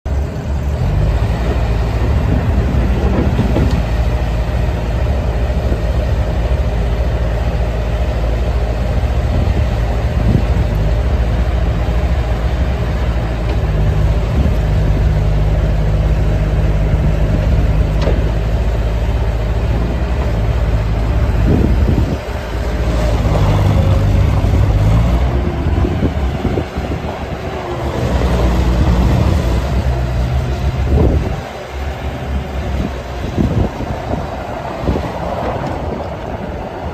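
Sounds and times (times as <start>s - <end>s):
diesel loader engine revving: 0.1s - 36.9s.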